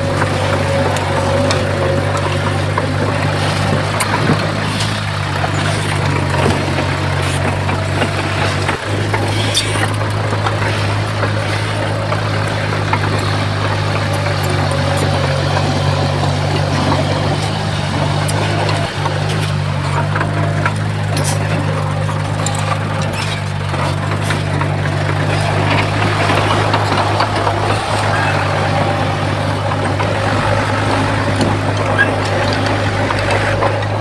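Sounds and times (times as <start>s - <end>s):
large diesel engine running: 0.0s - 34.0s.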